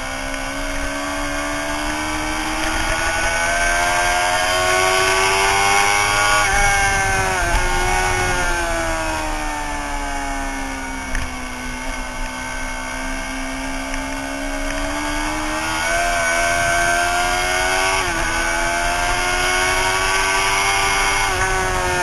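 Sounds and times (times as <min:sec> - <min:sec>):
low rumble of wind: 0:00.0 - 0:22.0
motorcycle engine revving: 0:00.0 - 0:22.0.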